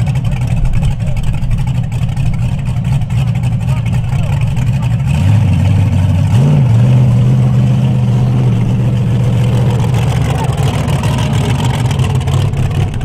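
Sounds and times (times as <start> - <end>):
buggy engine idling: 0.0 - 13.0.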